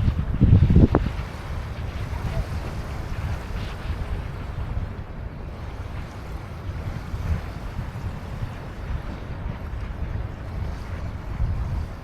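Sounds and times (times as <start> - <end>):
river waves lapping: 0.0 - 12.0
wind buffeting microphone: 0.0 - 12.0.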